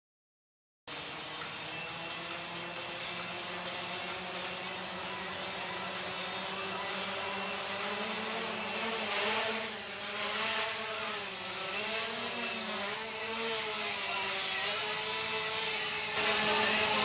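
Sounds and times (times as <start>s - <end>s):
quadcopter propellers whirring: 0.9s - 17.0s.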